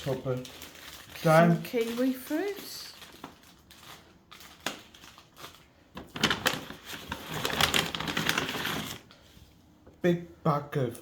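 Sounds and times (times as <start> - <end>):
plastic bag rustling: 0.0 - 9.1.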